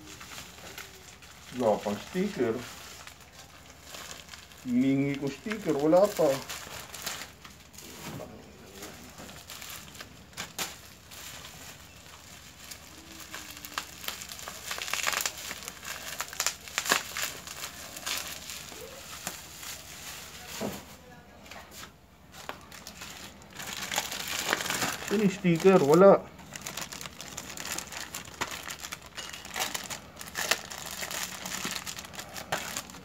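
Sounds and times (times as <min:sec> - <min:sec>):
plastic packaging crinkling: 0:00.0 - 0:21.2, 0:22.3 - 0:33.0.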